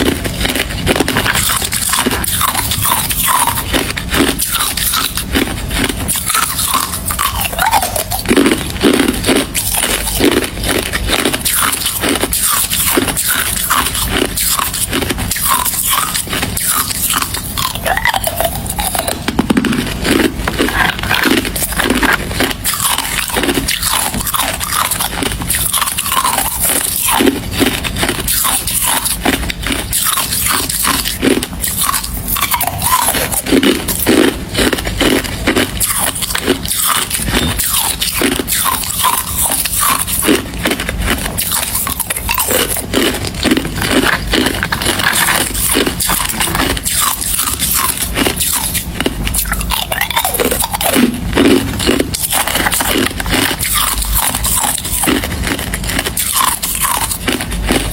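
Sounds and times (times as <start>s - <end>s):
chewing hard ice crunches: 0.0s - 57.9s.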